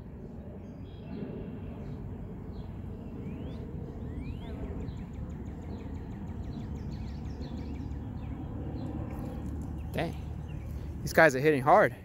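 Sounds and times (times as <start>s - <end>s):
low outdoor rumble: 0.0s - 12.0s
birds chirping: 0.3s - 12.0s.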